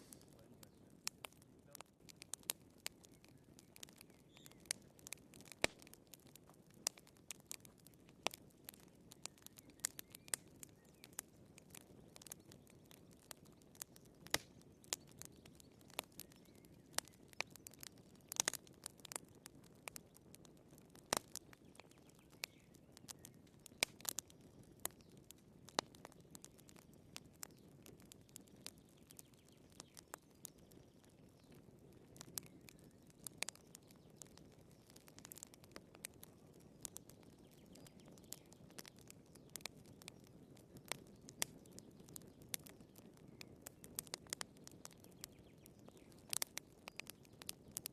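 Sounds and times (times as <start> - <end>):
firewood popping and snapping: 0.0 - 47.9
low rushing of flames: 0.0 - 47.9.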